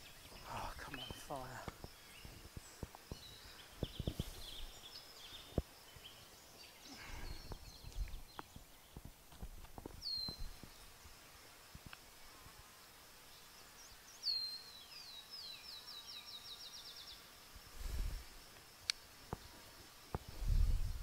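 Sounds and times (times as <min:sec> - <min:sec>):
songbird singing: 0:00.0 - 0:12.1, 0:13.0 - 0:21.0.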